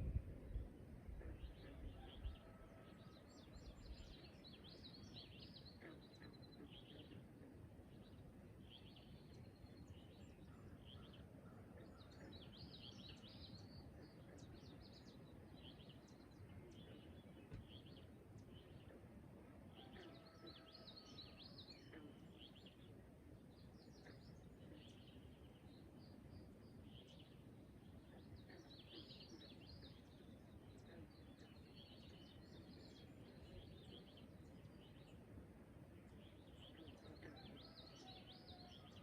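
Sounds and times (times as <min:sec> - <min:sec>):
low steady background noise: 0:00.0 - 0:39.0.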